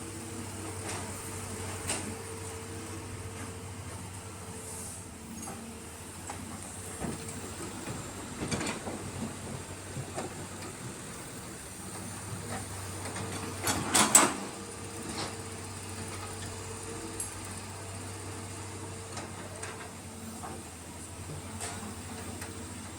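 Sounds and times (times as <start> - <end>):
excavator diesel engines running: 0.0 - 22.9.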